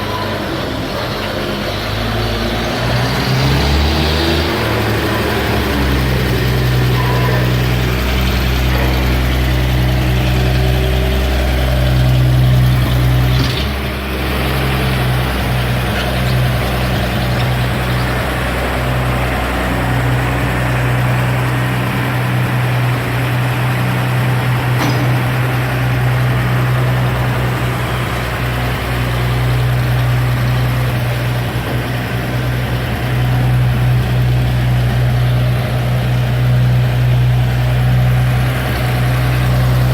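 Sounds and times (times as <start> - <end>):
engine knock: 0.0 - 39.9
truck engine running: 0.0 - 39.9.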